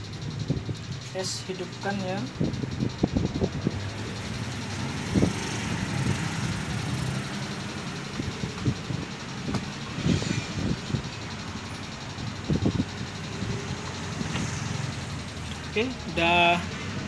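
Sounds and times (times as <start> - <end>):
low engine-like rumble: 0.0 - 17.0.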